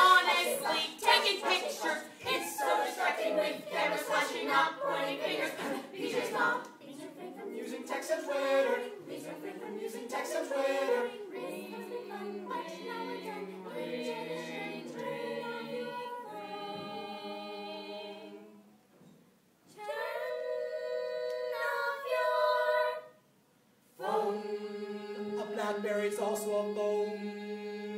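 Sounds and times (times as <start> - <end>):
choir singing a cappella: 0.0 - 18.8, 19.7 - 23.2, 24.0 - 27.9.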